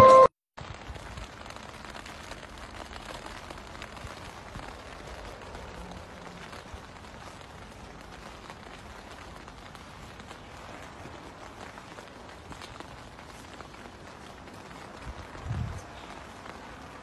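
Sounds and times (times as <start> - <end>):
faint small crackles: 0.6 - 17.0.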